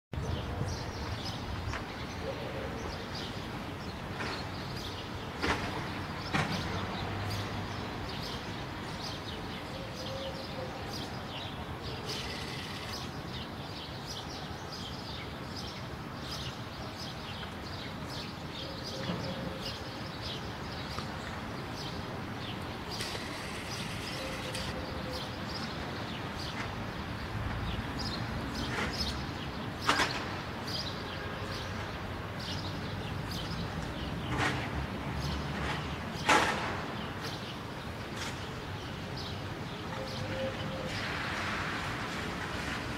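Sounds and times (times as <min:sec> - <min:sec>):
distant traffic: 0:00.2 - 0:42.9.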